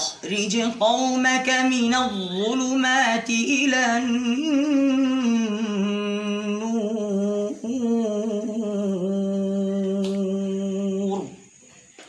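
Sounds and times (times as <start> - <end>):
man reciting melodically: 0.0 - 11.4.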